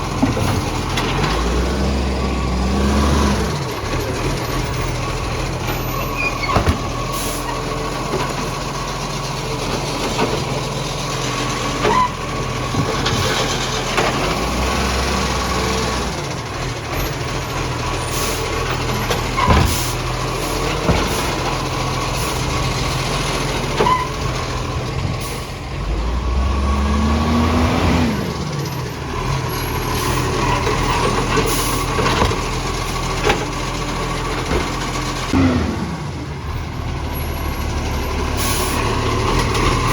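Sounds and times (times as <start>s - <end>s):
diesel engine with exhaust leak: 0.0s - 39.9s.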